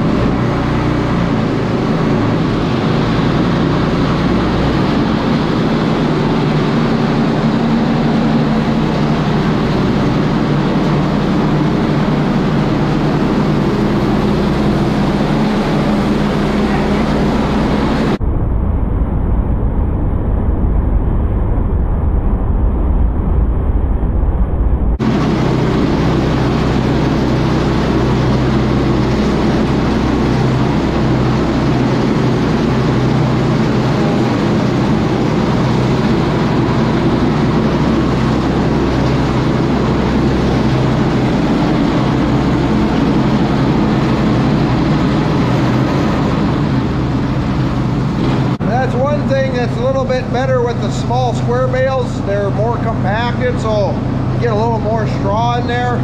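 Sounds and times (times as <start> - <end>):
bedding chopper engine running: 0.0 - 20.6, 24.9 - 56.0.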